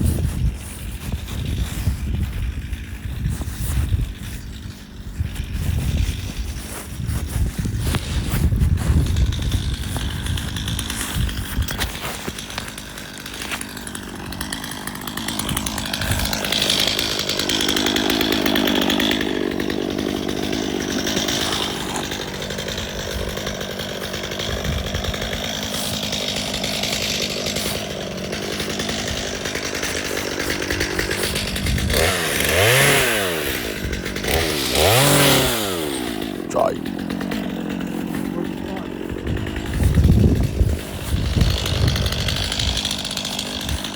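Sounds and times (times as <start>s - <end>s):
chainsaw engine revving: 0.0s - 43.9s.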